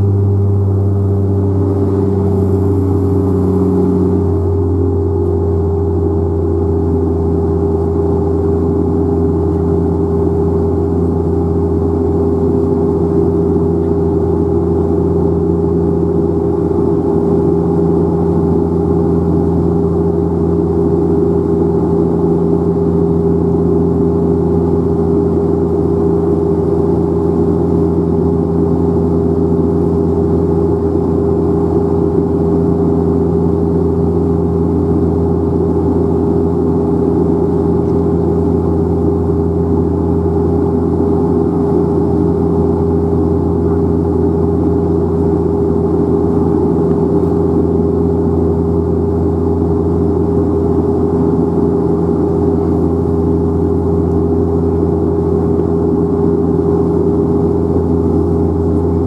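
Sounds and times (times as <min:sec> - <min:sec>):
propeller engine cabin drone: 0:00.0 - 0:59.0.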